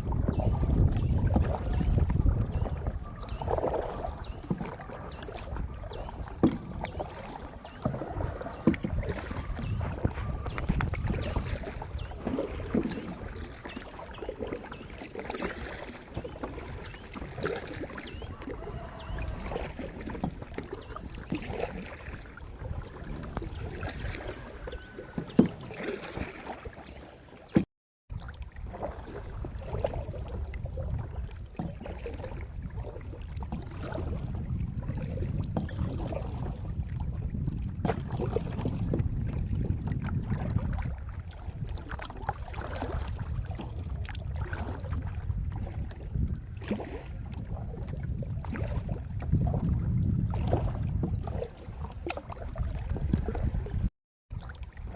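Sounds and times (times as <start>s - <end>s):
paddle splashes: 0.0s - 54.9s
water sloshing around hull: 0.0s - 54.9s.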